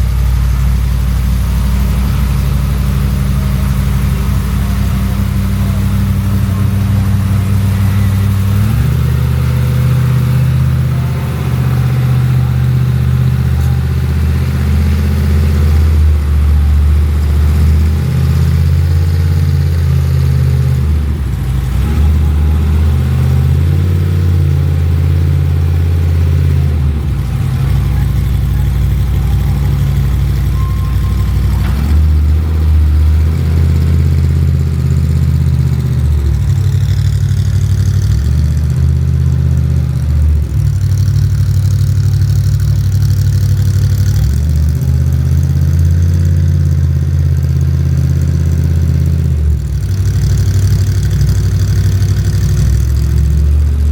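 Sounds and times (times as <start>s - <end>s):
vehicle engine droning: 0.0s - 53.9s.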